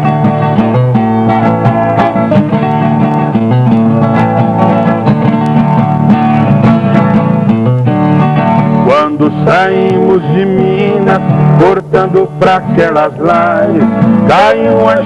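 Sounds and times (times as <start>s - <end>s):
plucked acoustic string instruments: 0.0s - 15.0s.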